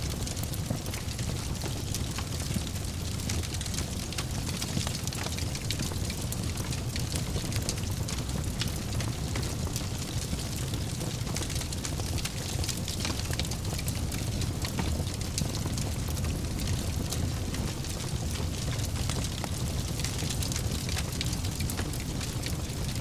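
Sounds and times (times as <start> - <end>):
fire crackles and pops: 0.0 - 23.0
low rumble of flames: 0.0 - 23.0.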